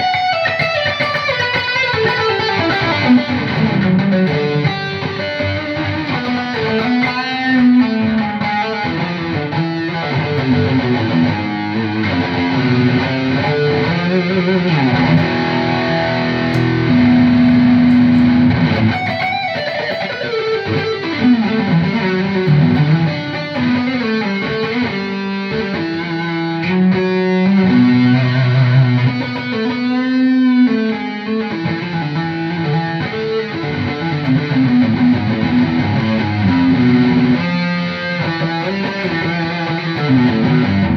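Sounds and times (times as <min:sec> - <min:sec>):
distorted electric guitar lead: 0:00.0 - 0:40.9.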